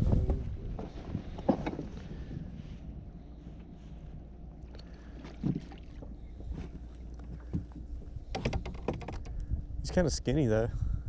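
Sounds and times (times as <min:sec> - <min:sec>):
wind rumble on microphone: 0:00.0 - 0:04.6, 0:05.4 - 0:11.0.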